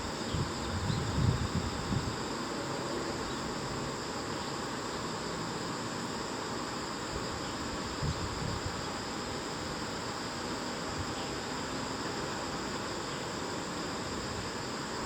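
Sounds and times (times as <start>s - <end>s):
constant hiss: 0.0s - 15.0s
insects chirring: 0.0s - 15.0s.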